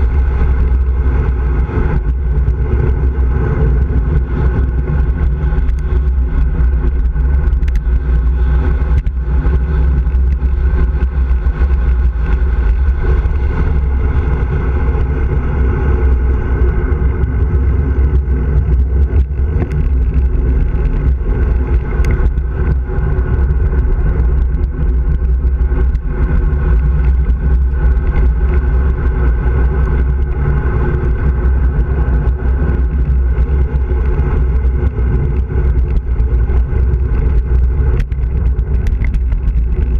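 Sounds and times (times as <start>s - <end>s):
tyre and road noise: 0.0s - 39.9s
wind buffeting a camera: 0.0s - 39.9s.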